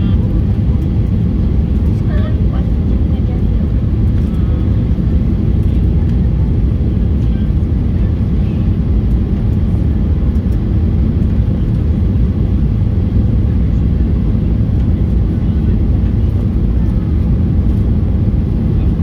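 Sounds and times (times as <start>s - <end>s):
jet engine cabin roar: 0.0s - 19.0s.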